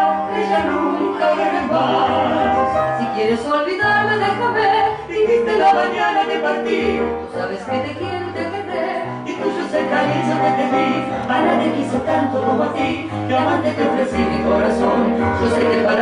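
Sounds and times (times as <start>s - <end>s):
tango waltz music: 0.0s - 16.0s.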